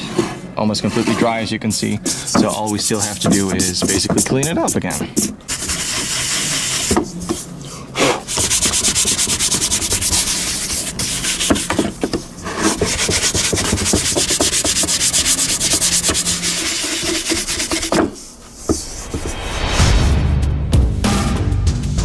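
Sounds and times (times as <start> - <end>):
hand scrubbing metal helmet: 0.0 - 19.8.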